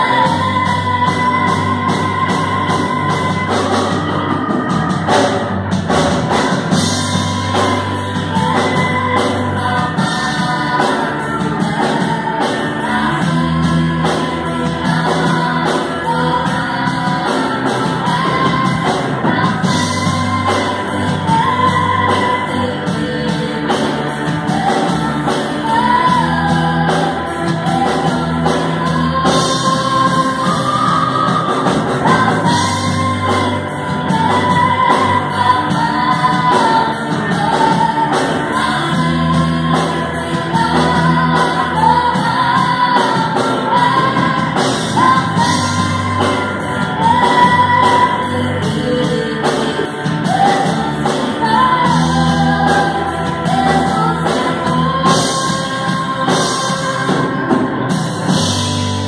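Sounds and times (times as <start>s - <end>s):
woman singing: 0.0s - 58.6s
bass guitar: 0.0s - 59.0s
drum kit beat: 0.0s - 59.0s
electric guitars: 0.0s - 59.0s
keyboard: 0.0s - 59.0s.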